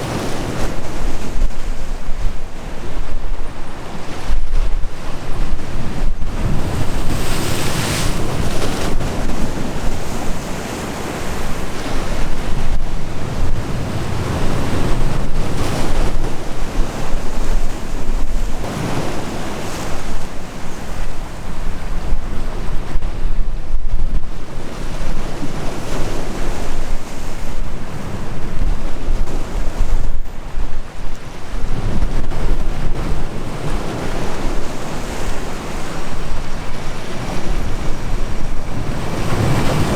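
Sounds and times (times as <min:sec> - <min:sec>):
sea waves breaking: 0:00.0 - 0:39.9
wind buffeting microphone: 0:00.0 - 0:39.9.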